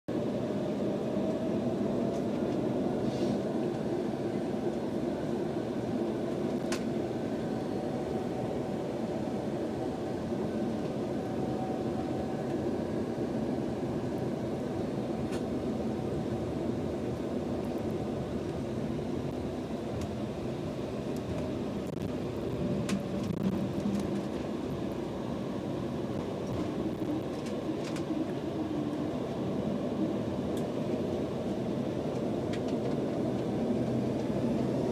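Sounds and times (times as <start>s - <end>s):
faint whine: 0.1s - 34.9s
jet engines running at low power: 0.1s - 34.9s.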